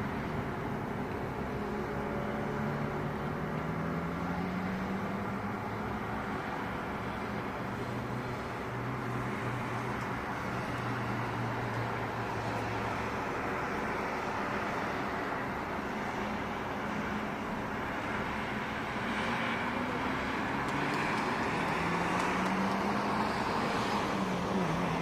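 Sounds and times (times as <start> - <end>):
low engine hum: 0.0 - 25.0
road traffic noise: 0.0 - 25.0.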